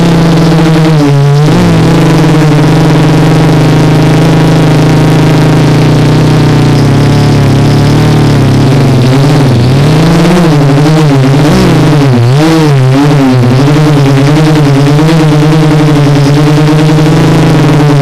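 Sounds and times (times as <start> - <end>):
quadcopter propellers buzzing: 0.0 - 18.0.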